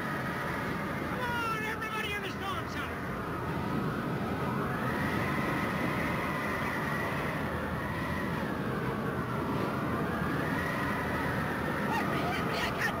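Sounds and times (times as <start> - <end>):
howling tornado wind: 0.0 - 13.0.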